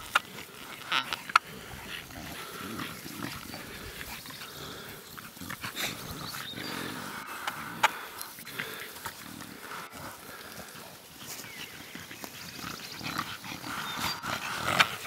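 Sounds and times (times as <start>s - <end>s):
dogs vocalizing while playing: 0.0s - 15.0s.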